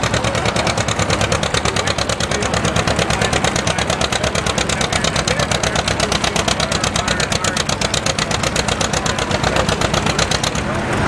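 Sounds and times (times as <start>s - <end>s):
tractor engine popping exhaust: 0.0s - 11.0s.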